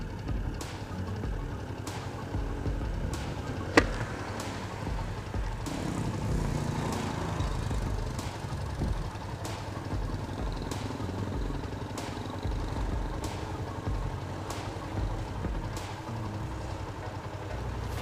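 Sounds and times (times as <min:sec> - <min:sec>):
motorcycle engine idling: 0:00.0 - 0:18.0
sharp ticks: 0:00.0 - 0:18.0.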